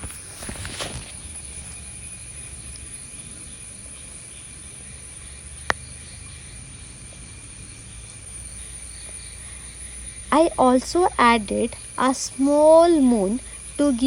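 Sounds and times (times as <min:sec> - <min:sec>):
high-pitched insect chorus: 0:00.0 - 0:14.0
low outdoor hiss: 0:00.0 - 0:14.0.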